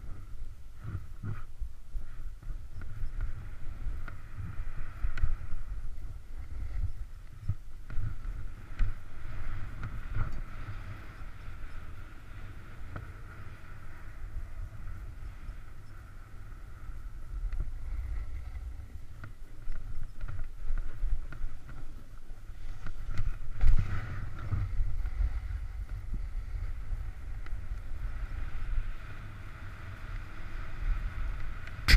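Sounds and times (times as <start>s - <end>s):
skis sliding over snow: 0.0s - 31.9s
wind rushing over microphone: 0.0s - 31.9s.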